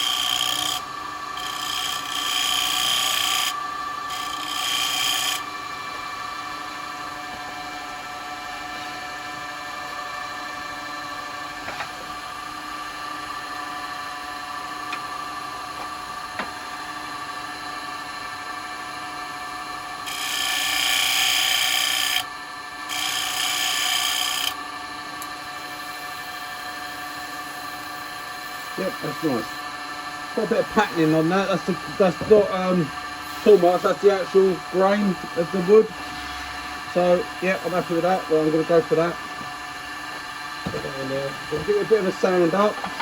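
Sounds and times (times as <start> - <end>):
turning tool cutting wood: 0.0 - 43.0
wood lathe humming: 0.0 - 43.0.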